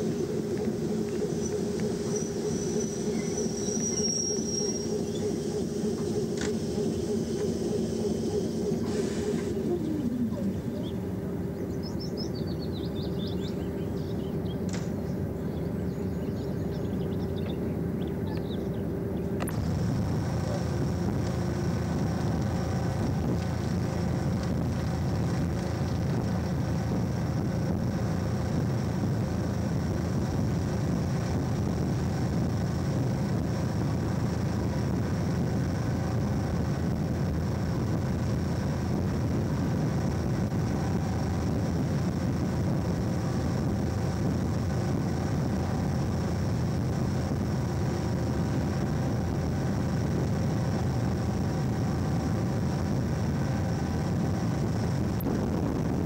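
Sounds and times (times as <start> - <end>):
train rumbling at speed: 0.0 - 56.0.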